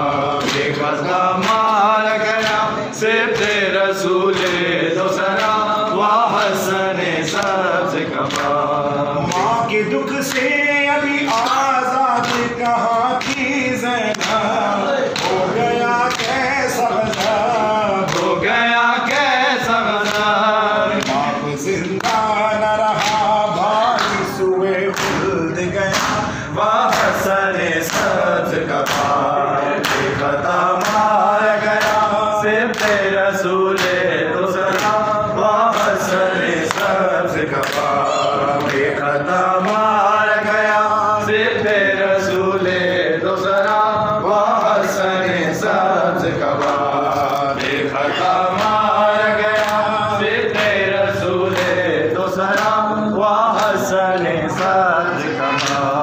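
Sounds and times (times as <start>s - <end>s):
man chanting: 0.0s - 56.0s
men singing in unison: 0.0s - 56.0s.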